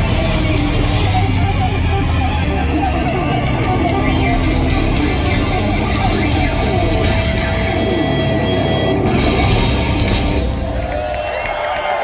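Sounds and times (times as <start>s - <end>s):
live hard rock band: 0.0s - 11.6s.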